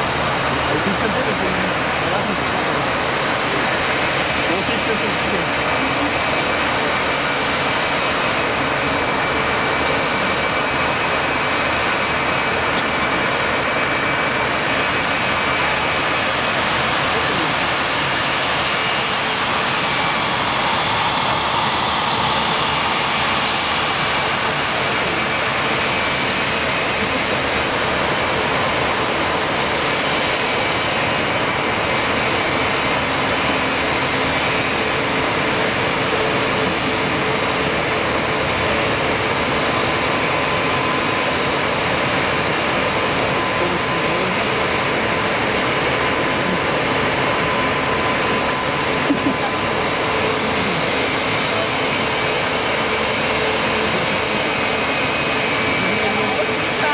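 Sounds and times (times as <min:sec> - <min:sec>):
jet engines idling: 0:00.0 - 0:56.9.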